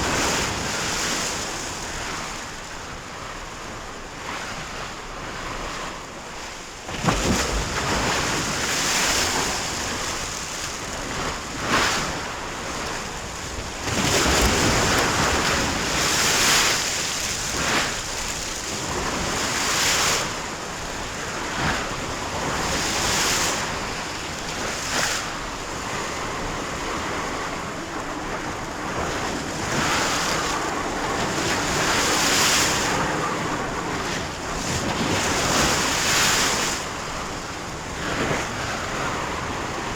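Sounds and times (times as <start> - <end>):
wind: 0.0 - 39.9
sea waves breaking: 6.9 - 39.9.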